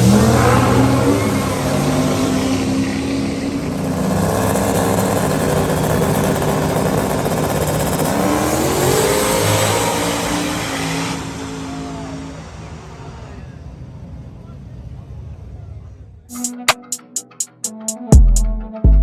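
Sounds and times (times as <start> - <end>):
vehicle engine revving: 0.0 - 16.3.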